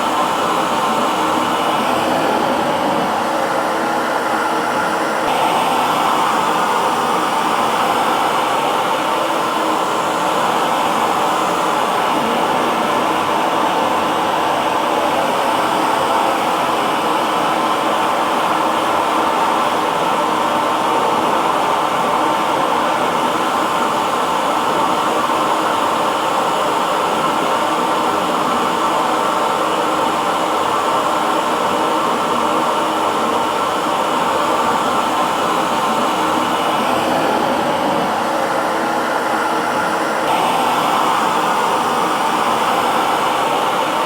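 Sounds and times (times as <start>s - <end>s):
hair dryer blowing air: 0.0s - 44.0s.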